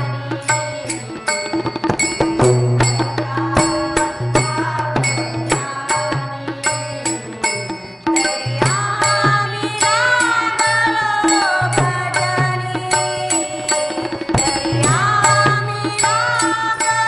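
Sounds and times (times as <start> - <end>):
women singing: 0.0 - 17.0
hand cymbals clashing: 0.4 - 17.0.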